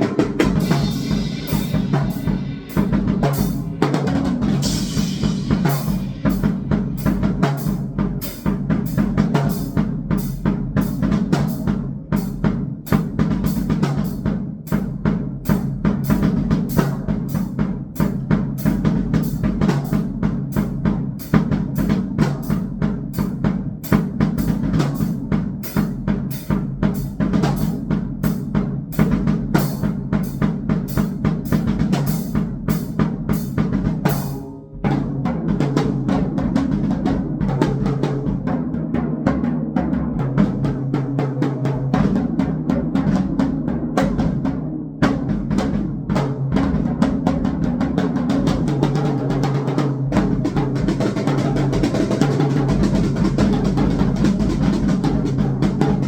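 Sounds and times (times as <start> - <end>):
fast drum kit playing: 0.0 - 56.0.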